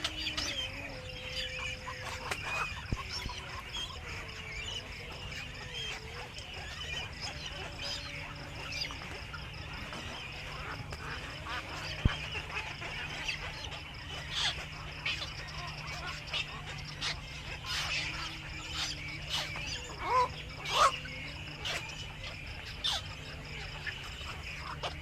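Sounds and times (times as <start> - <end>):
birds chirping and clicking: 0.0 - 25.0
insect drone: 0.0 - 25.0
low even hum: 0.0 - 25.0.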